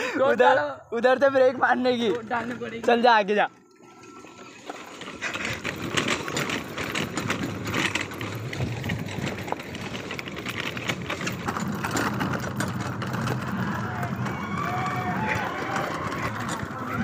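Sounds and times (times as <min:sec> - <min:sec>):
go-kart engine running: 0:00.0 - 0:17.0
clicks and rattles of tyres and frame: 0:01.1 - 0:17.0.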